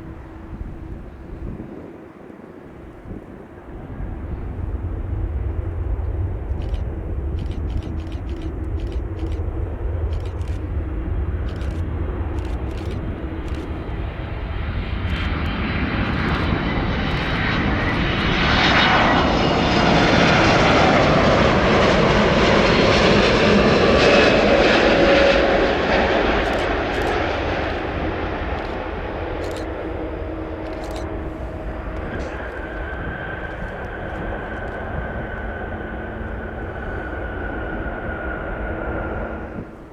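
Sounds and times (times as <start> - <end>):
jet engines passing: 0.0 - 39.9.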